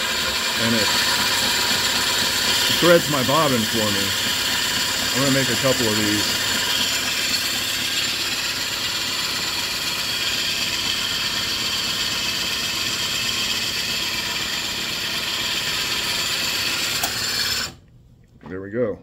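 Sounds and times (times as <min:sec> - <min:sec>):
sewing machine bobbin winder whirring: 0:00.0 - 0:17.8.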